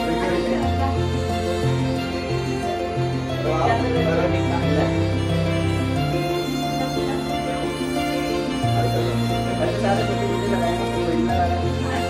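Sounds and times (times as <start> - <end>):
slow tender music: 0.0 - 12.0.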